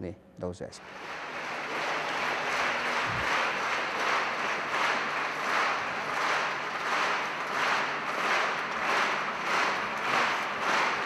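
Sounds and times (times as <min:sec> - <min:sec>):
audience clapping in unison: 0:00.8 - 0:11.0.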